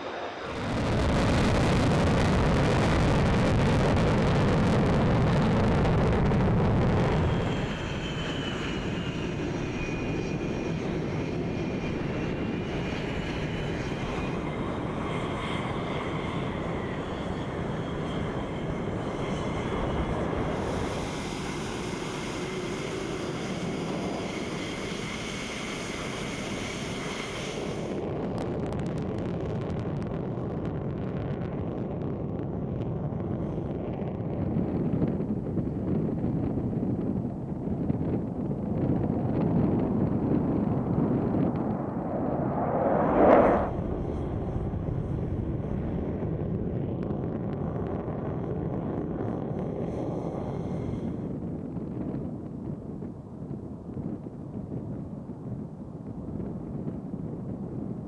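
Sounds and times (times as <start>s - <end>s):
jet engines roaring with whine: 0.0s - 58.0s.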